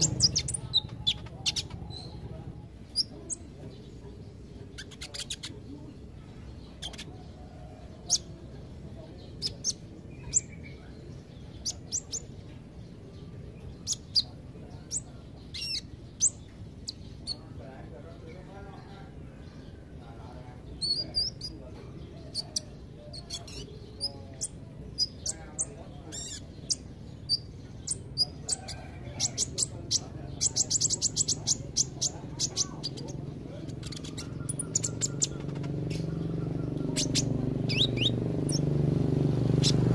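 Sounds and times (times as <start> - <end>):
bird twittering: 0.0 - 3.5, 4.1 - 5.7, 6.6 - 8.4, 9.3 - 12.4, 13.6 - 18.2, 20.6 - 38.8, 39.4 - 39.9
bird chirping: 0.0 - 39.9.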